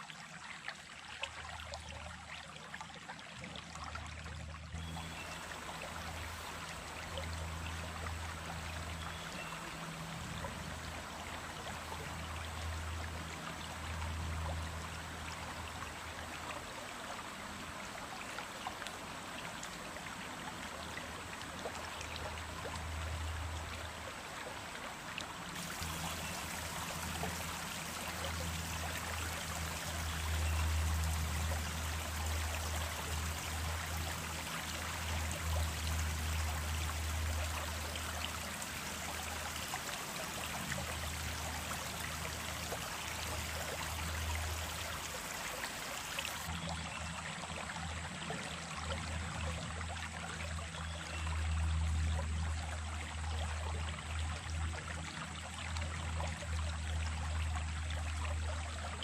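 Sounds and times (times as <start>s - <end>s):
small stream running: 0.0s - 59.0s.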